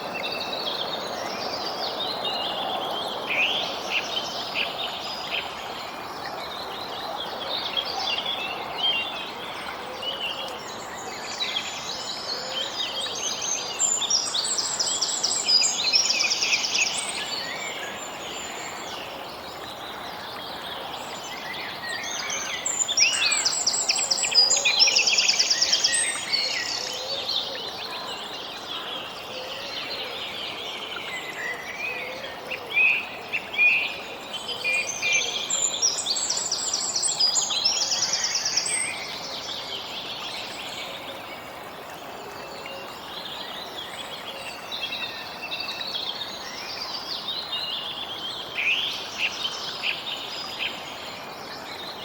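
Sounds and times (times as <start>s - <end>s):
outdoor background hiss: 0.0s - 52.0s.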